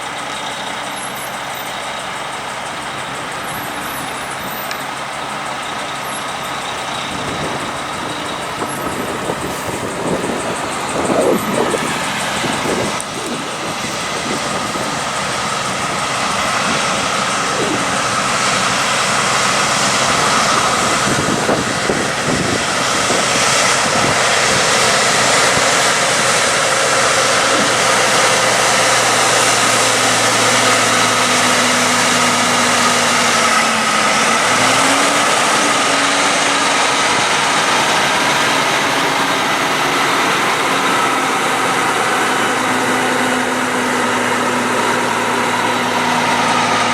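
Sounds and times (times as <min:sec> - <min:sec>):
trucks passing: 0:00.0 - 0:46.9
wind noise on microphone: 0:02.4 - 0:46.9.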